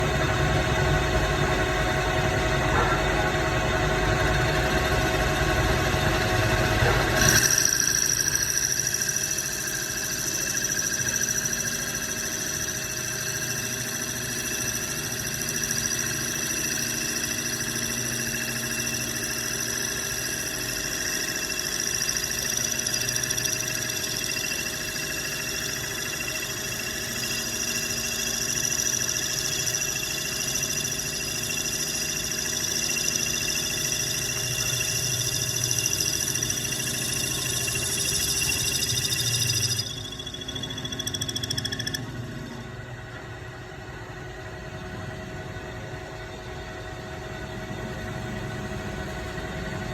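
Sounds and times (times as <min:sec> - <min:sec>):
cutting tool high-pitched whine: 0:00.0 - 0:44.4
lathe machine hum: 0:00.0 - 0:45.0.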